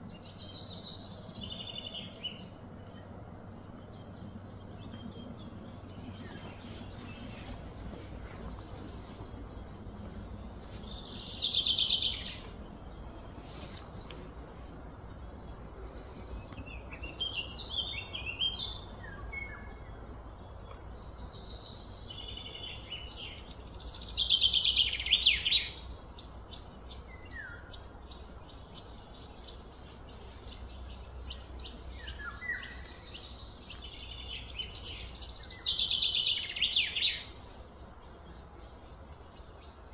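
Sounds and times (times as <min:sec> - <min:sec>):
birds chirping: 0:00.0 - 0:39.9
low background noise: 0:00.0 - 0:39.9.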